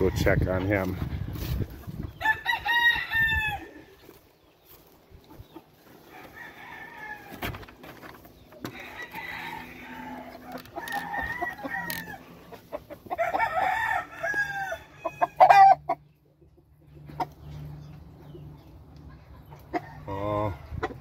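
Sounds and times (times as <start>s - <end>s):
chickens clucking: 0.0s - 2.5s, 3.4s - 21.0s
roosters crowing: 0.0s - 16.1s, 19.4s - 21.0s.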